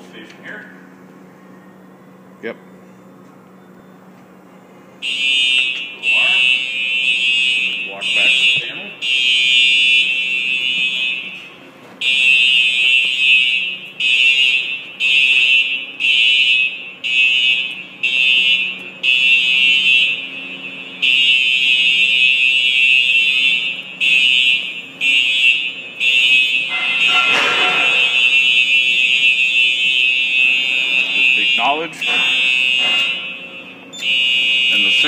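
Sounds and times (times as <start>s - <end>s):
fire alarm horn blasts: 5.0s - 35.0s.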